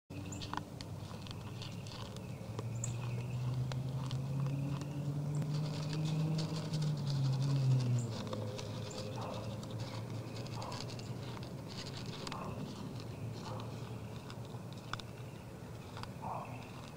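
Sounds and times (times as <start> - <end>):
deer crunching feed: 0.1 - 16.9.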